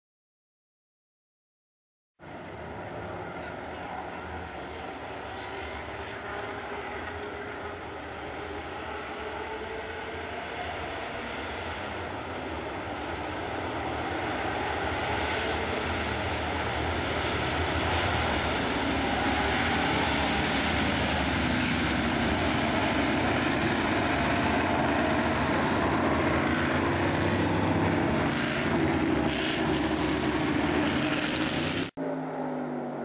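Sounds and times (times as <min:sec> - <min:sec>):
race car engines at speed: 0:02.2 - 0:33.0.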